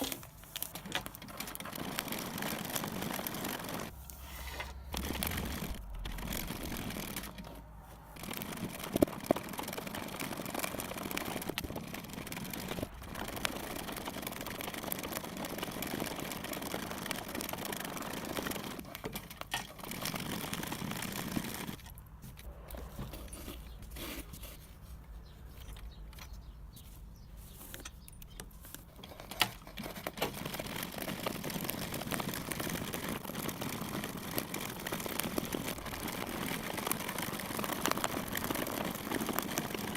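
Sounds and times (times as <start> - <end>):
needle and thread through fabric: 0.0 - 39.9.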